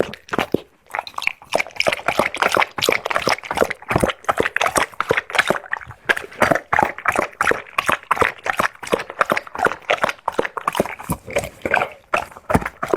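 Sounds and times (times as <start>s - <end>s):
dog eating from bowl: 0.0s - 12.9s.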